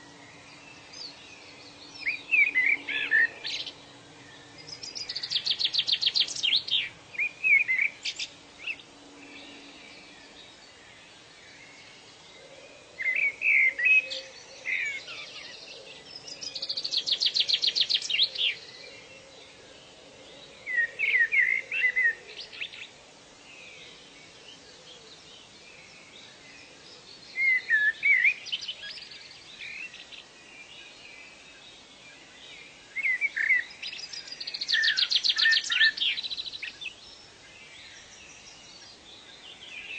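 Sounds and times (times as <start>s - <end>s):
songbird chirps and trill: 0.0s - 39.9s.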